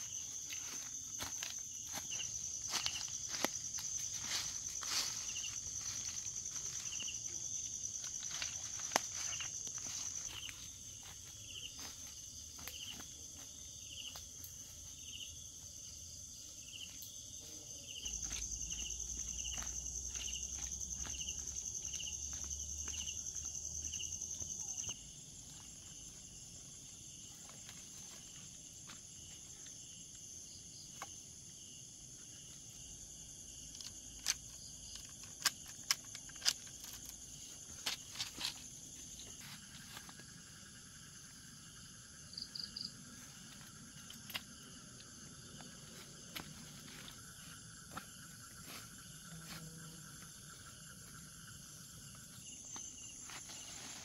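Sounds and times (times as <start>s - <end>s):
short insect chirp: 0.0s - 26.4s, 29.1s - 54.0s
insects buzzing: 0.0s - 54.0s.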